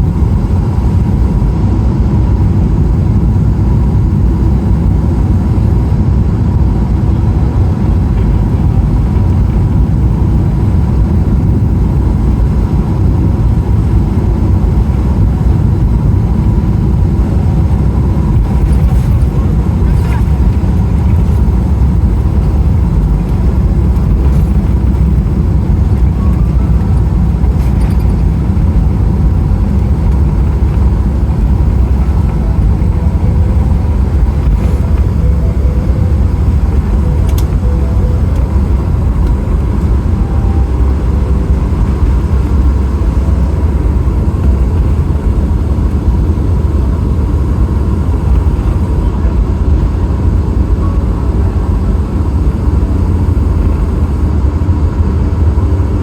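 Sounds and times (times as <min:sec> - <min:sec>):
aircraft cabin engine rumble: 0:00.0 - 0:56.0
thin steady whine: 0:00.0 - 0:56.0.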